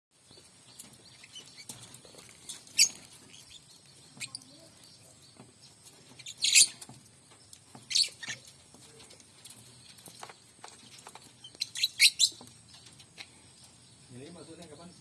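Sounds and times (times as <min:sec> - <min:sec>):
songbird chirping: 0:00.2 - 0:15.0.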